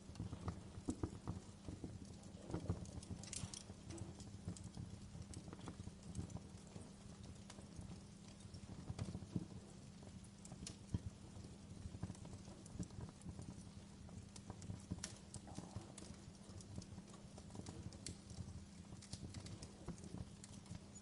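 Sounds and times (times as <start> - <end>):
low rumble of fire: 0.0 - 21.0
wood fire crackling: 0.0 - 21.0.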